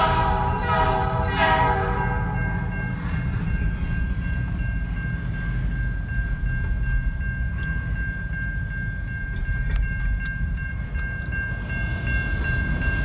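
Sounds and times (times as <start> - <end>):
freight train rumbling past: 0.0 - 13.0
high ringing tone: 0.4 - 13.0.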